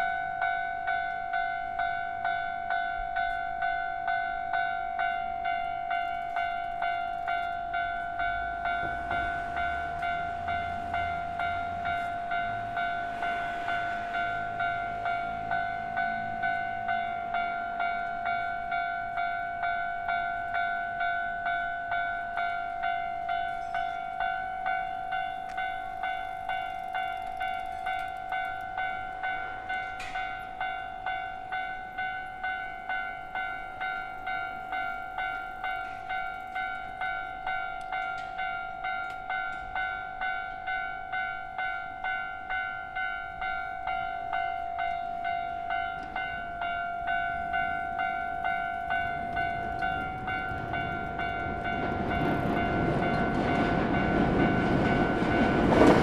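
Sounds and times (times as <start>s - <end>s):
level crossing warning bell: 0.0s - 56.0s.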